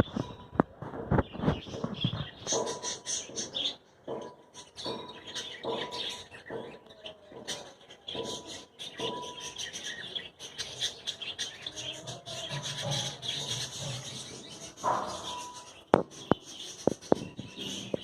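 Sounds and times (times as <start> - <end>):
birds chirping and twittering: 0.0 - 18.0.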